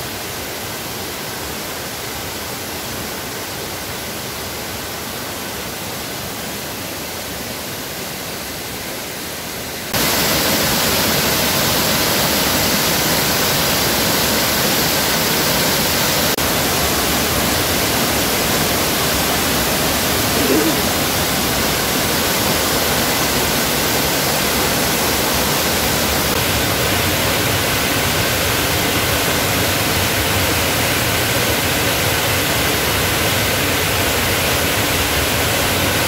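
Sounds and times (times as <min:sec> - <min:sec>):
waterfall rushing onto rocks: 0:00.0 - 0:36.0.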